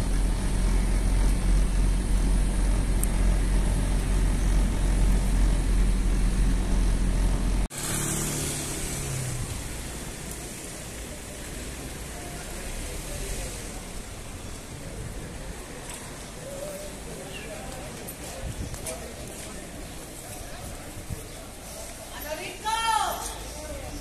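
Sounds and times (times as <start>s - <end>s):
faint engine hum: 0.0s - 22.0s
passing vehicles rumbling: 0.0s - 22.2s
street hiss: 0.0s - 24.0s.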